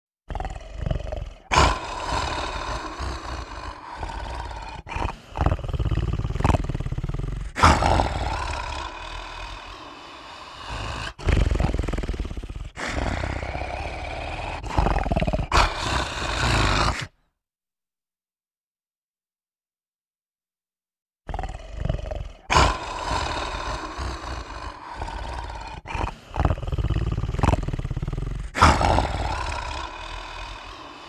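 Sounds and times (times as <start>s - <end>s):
monster growling and roaring: 0.3s - 17.2s, 21.3s - 31.0s.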